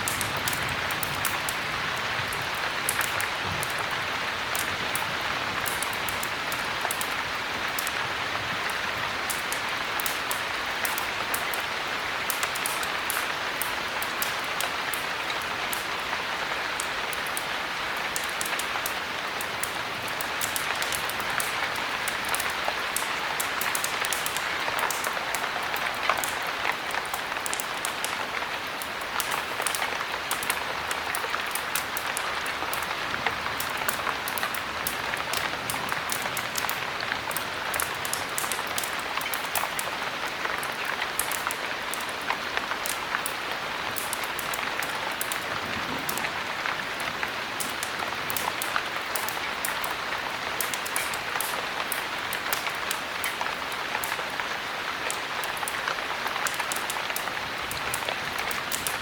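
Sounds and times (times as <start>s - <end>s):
heavy rain hissing and ticking: 0.0s - 59.0s.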